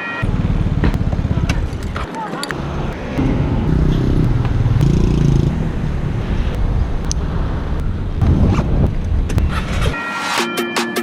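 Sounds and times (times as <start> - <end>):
scooter engine running: 0.1 - 10.0
wind buffeting microphone: 0.3 - 10.0.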